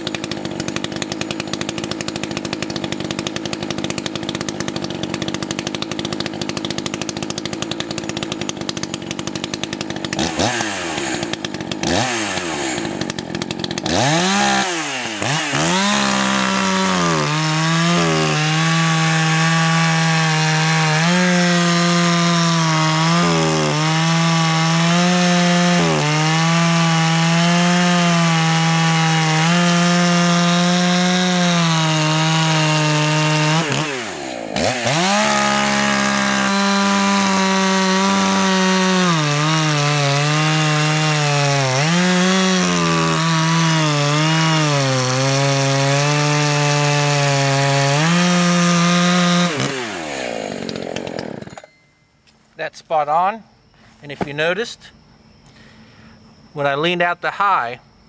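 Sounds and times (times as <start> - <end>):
chainsaw cutting log: 0.0 - 51.8.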